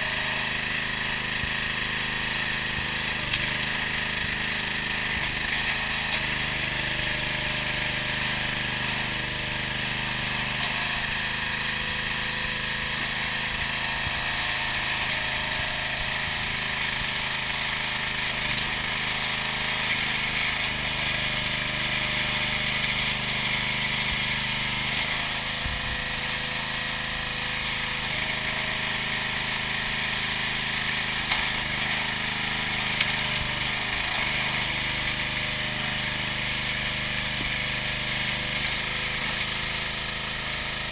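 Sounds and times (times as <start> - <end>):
petrol engine running: 0.0 - 40.9.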